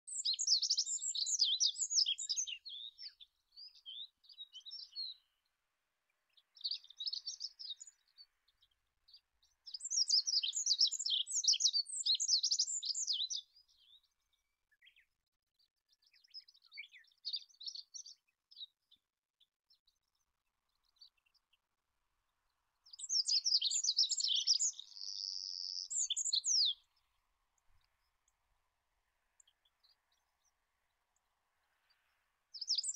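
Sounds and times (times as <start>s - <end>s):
bird twittering song: 0.0s - 21.6s, 22.3s - 28.4s, 29.3s - 32.9s.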